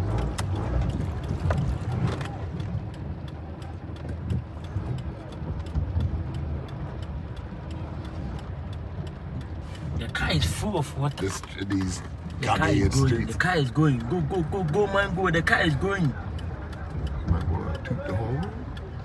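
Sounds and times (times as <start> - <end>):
light ticking: 0.0 - 19.0
low rumble of engine and road: 0.0 - 19.0.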